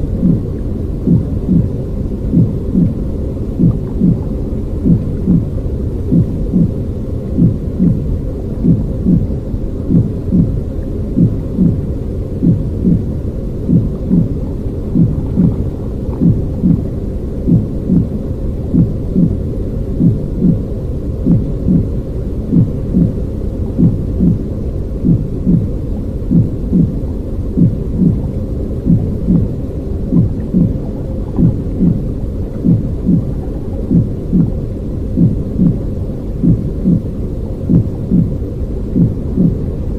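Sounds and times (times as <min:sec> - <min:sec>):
steady low rumbling noise: 0:00.0 - 0:39.9.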